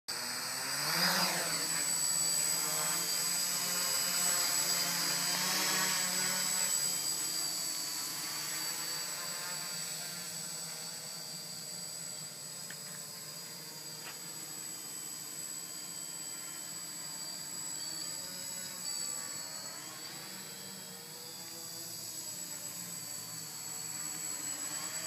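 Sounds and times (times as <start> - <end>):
quadcopter motors whining: 0.1 - 25.0.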